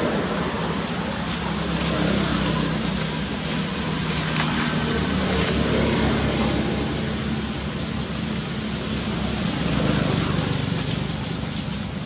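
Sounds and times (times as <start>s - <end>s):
constant hiss: 0.0s - 12.0s
low engine rumble: 0.0s - 12.0s.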